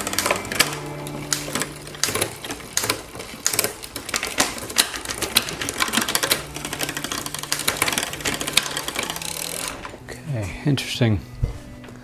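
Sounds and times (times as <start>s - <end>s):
bicycle chain clicking: 0.0s - 10.0s.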